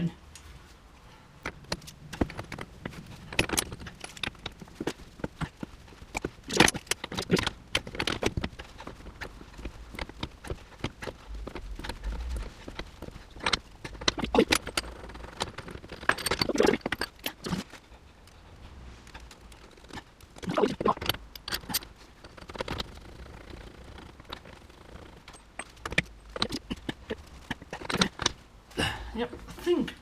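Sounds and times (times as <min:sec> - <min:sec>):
metal tools clinking: 0:01.4 - 0:17.8, 0:19.0 - 0:28.4.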